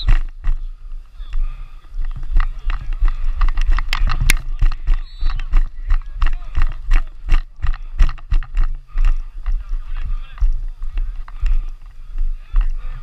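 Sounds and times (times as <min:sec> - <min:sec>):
running footsteps thudding: 0:00.0 - 0:13.0.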